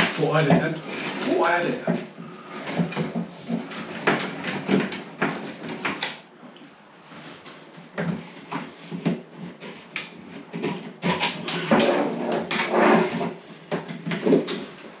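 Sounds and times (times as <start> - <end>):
cable rods knocking and scraping: 0.0 - 6.3, 7.0 - 15.0.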